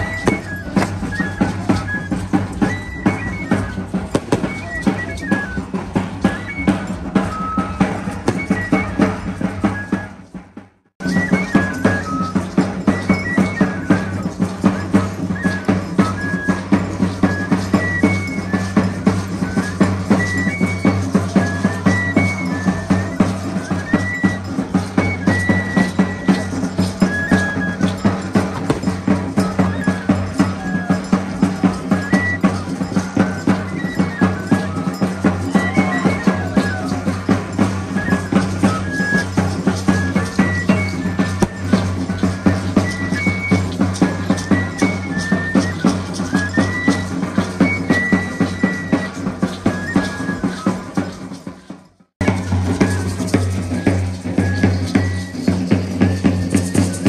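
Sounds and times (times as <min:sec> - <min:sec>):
high flute melody: 0:00.0 - 0:10.4, 0:11.0 - 0:57.0
rapid drumbeat: 0:00.0 - 0:57.0.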